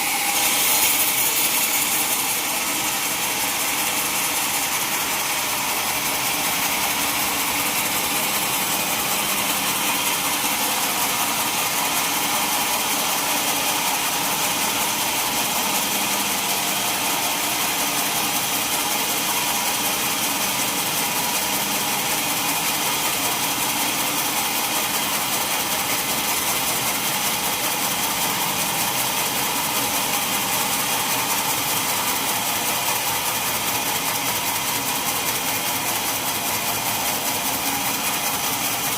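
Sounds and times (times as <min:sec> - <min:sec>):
sawmill saw cutting log: 0:00.0 - 0:38.9.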